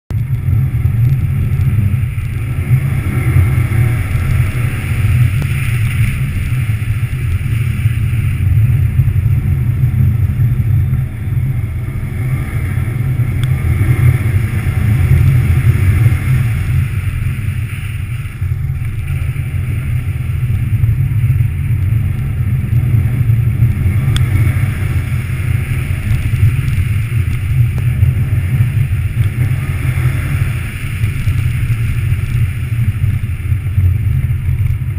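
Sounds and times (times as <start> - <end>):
car engine droning: 0.1 - 34.9.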